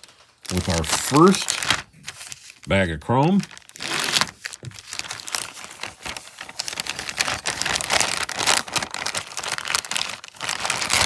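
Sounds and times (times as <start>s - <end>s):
plastic bag crinkling: 0.0s - 2.6s, 3.2s - 11.0s.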